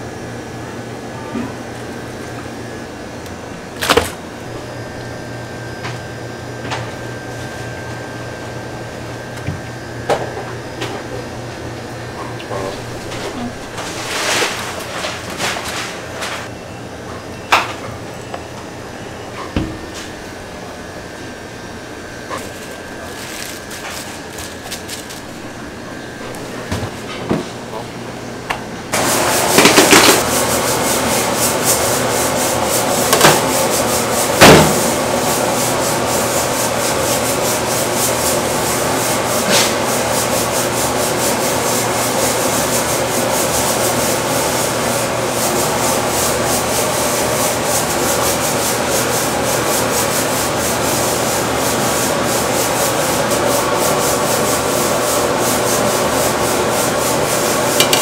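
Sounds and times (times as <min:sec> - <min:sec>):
loud rushing kitchen noise: 0:00.0 - 0:58.0.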